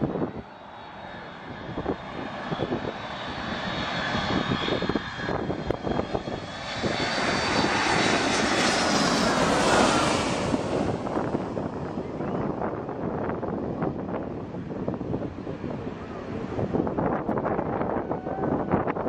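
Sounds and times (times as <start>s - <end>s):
jet airliner engines passing overhead: 0.0s - 19.0s.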